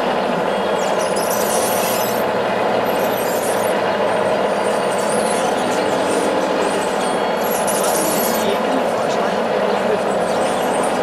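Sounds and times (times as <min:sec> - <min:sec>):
high squealing whine: 0:00.0 - 0:11.0
mechanical drone: 0:00.0 - 0:11.0.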